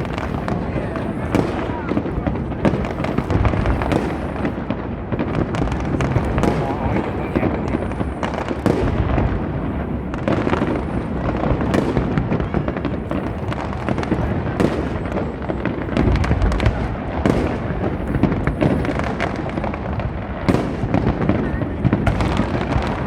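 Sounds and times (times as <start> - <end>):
deep firework booms: 0.0 - 23.0
firework bangs and crackles: 0.0 - 23.0.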